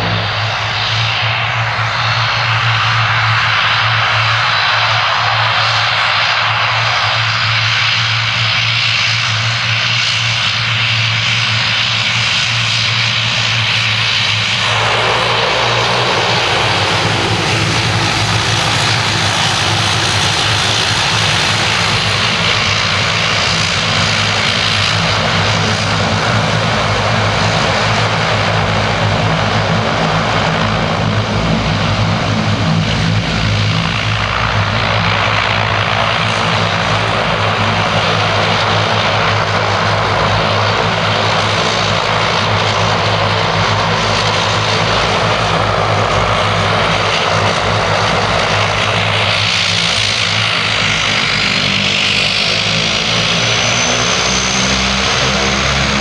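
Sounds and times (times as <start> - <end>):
turboprop engines at taxi power: 0.0 - 56.0.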